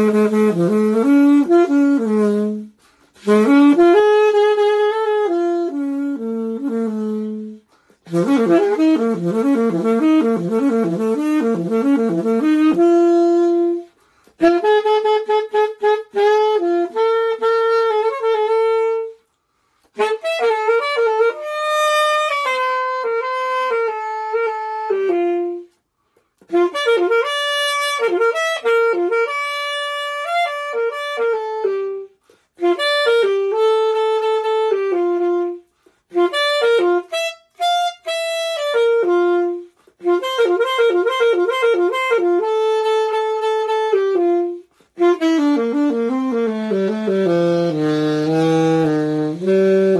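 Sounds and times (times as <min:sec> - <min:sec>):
solo wind instrument melody: 0:00.0 - 0:49.9.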